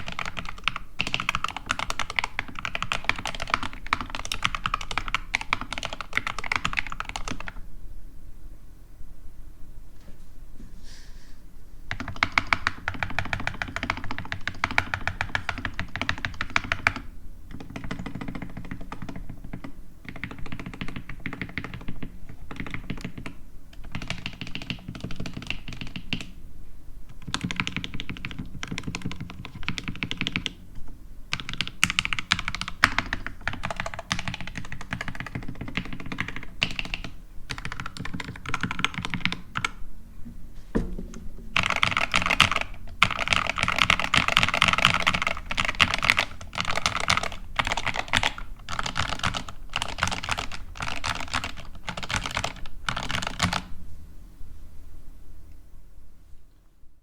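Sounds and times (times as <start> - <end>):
fast typing on mechanical keyboard: 0.0 - 7.6, 11.9 - 26.3, 27.2 - 30.6, 31.3 - 39.8, 41.6 - 53.7.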